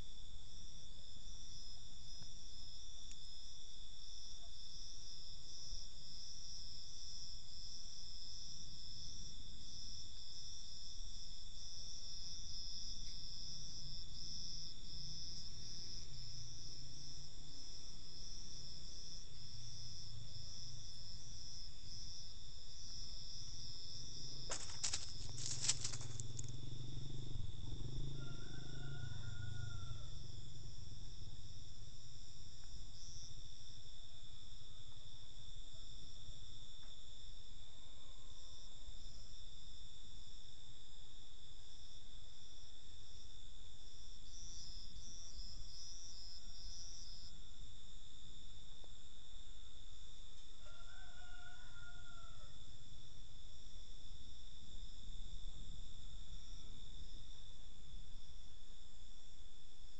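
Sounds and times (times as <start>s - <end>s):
night insects chirring: 0.0s - 59.9s.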